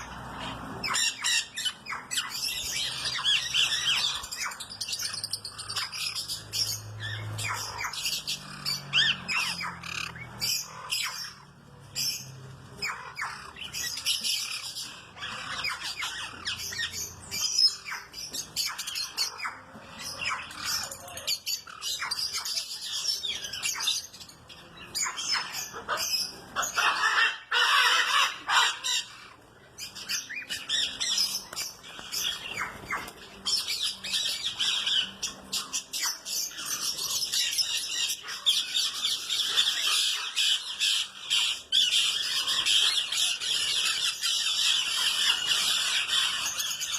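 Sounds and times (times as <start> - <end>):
birds chirping and squawking: 0.0 - 46.9.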